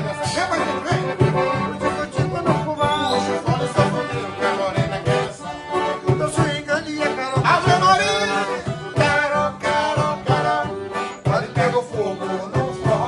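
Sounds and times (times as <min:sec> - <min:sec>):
low drum beat: 0:00.0 - 0:05.4, 0:06.0 - 0:13.0
accordion melody: 0:00.0 - 0:13.0.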